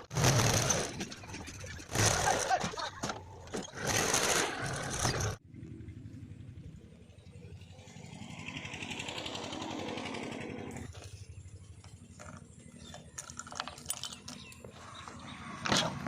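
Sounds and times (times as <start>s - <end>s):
diesel engine chugging: 0.2s - 13.2s.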